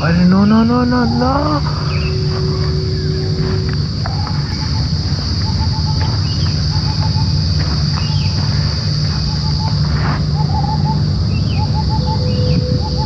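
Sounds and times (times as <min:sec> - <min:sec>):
birds rising chirps: 0:00.0 - 0:13.0
high insect drone: 0:00.0 - 0:13.0
loud low rumble: 0:00.0 - 0:13.0.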